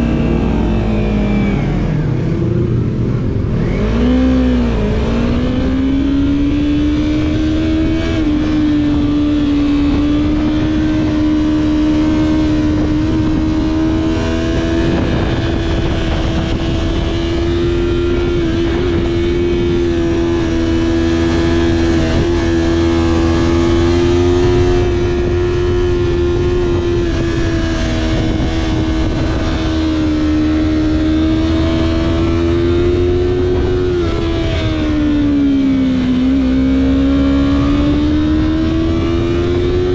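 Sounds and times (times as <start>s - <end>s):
motorbike engine revving: 0.0s - 39.9s
wind rushing: 0.0s - 39.9s.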